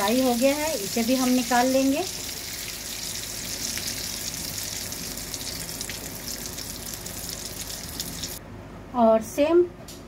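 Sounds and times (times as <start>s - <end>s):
vegetables sizzling in oil: 0.0s - 8.4s.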